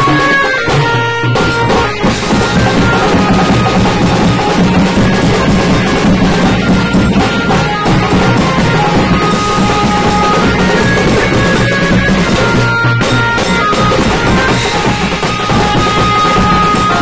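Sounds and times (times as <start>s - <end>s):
drums beating: 0.0s - 17.0s
wedding band music: 0.0s - 17.0s.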